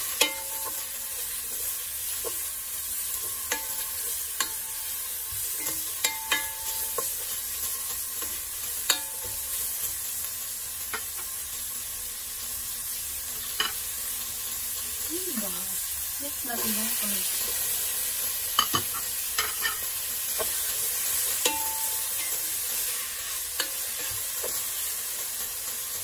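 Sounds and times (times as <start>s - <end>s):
garlic sizzling in hot oil: 0.0s - 26.0s.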